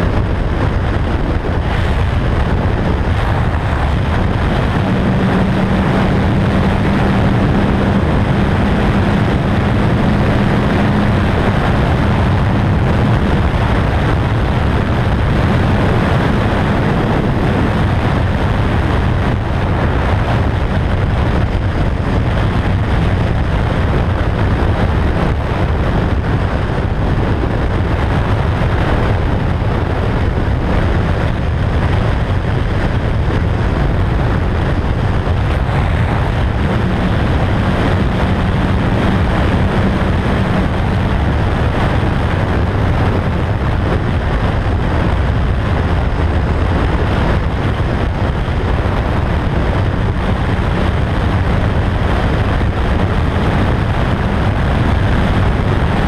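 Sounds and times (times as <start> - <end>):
motorcycle engine droning: 0.0 - 56.0
road noise: 0.0 - 56.0
wind noise on microphone: 0.0 - 56.0.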